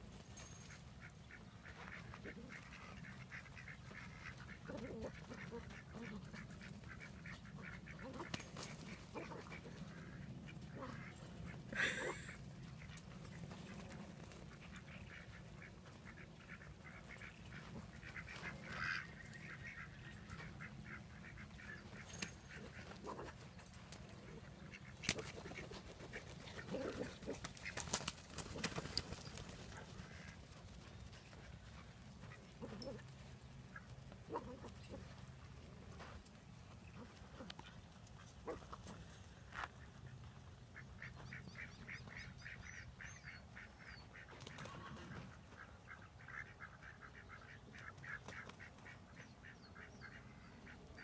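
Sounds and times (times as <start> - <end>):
ducks quacking: 0.6 - 51.0.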